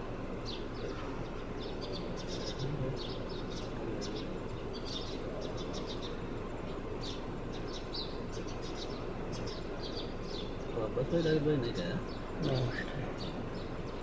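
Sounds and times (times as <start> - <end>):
low background noise: 0.0 - 14.0
small birds chirping: 0.0 - 14.0.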